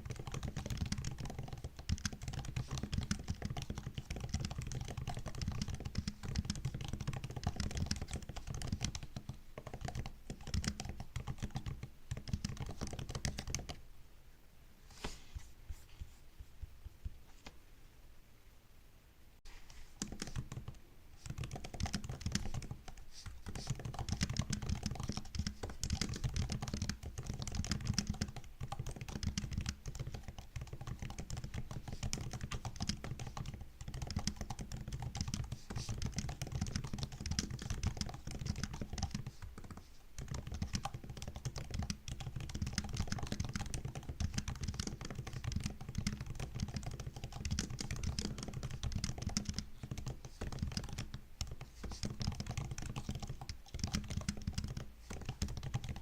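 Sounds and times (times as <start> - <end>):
laptop keyboard typing: 0.0 - 13.8, 19.9 - 56.0.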